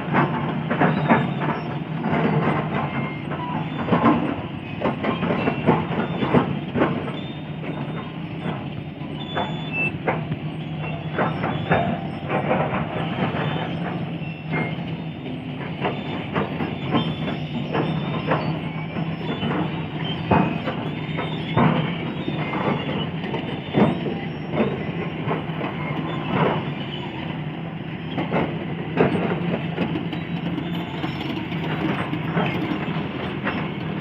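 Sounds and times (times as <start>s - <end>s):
excavator diesel engine running: 0.0s - 34.0s
machine knocking: 0.0s - 34.0s.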